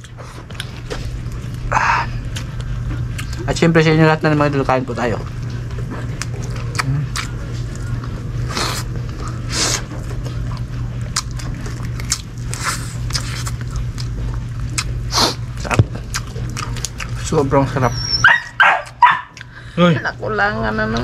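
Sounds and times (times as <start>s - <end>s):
chewing with lip smacks: 0.0s - 3.5s, 5.2s - 19.6s
low hum: 0.0s - 21.0s.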